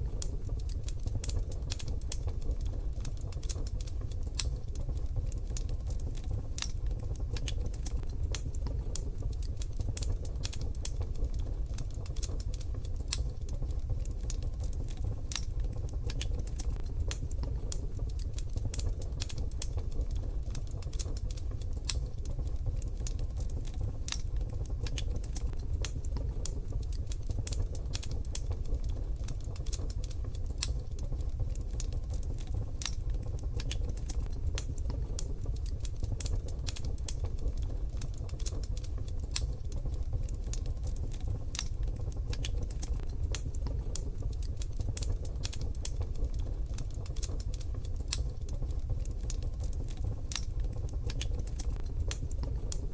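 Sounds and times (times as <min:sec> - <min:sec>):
low rumble of burning fire: 0:00.0 - 0:52.9
wood fire crackling: 0:00.0 - 0:52.9.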